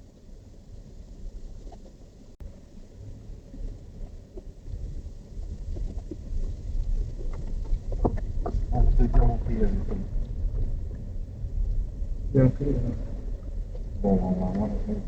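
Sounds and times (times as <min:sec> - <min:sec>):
vehicle rumble on rough track: 0:00.0 - 0:15.0.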